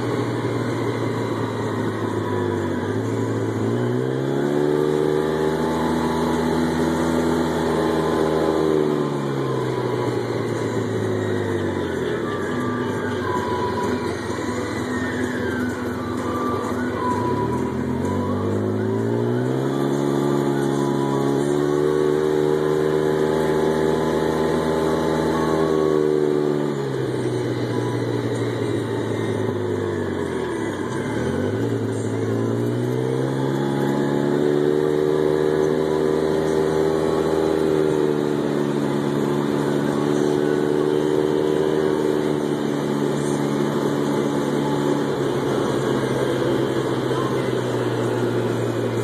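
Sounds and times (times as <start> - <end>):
driving on gravel: 0.0 - 49.0
vehicle engine running: 0.0 - 49.0.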